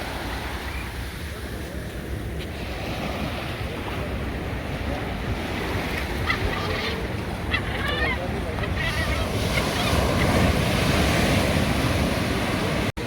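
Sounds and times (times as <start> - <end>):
sea waves washing in: 0.0 - 7.5, 8.2 - 13.0.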